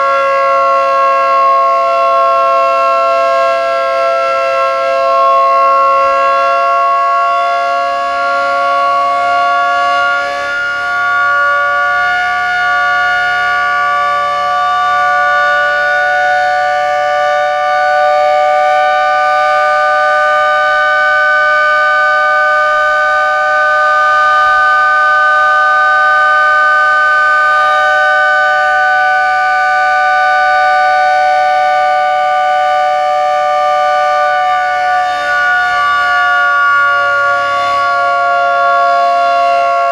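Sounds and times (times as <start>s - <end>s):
motor siren wailing: 0.0s - 39.9s.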